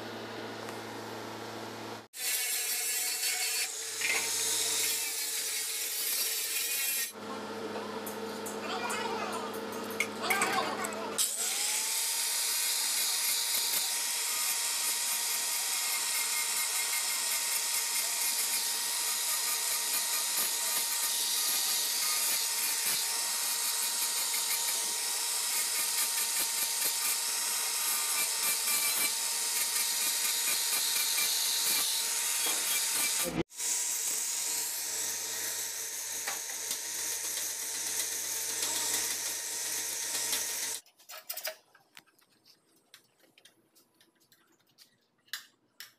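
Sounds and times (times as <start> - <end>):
angle grinder cutting metal: 2.2 - 7.2, 8.2 - 40.8.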